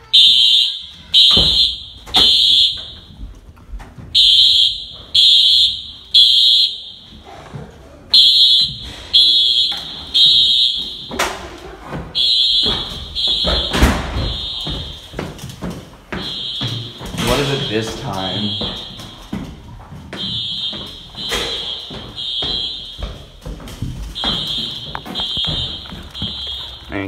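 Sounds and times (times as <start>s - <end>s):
fire alarm beeps: 0.0s - 3.3s, 4.1s - 7.2s, 8.1s - 11.4s, 12.2s - 15.5s, 16.1s - 27.0s.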